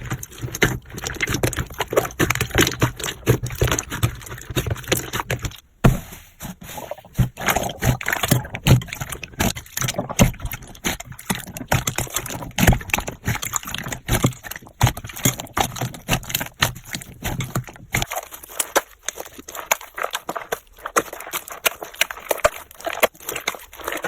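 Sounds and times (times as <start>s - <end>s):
slime squelching: 0.0s - 24.0s.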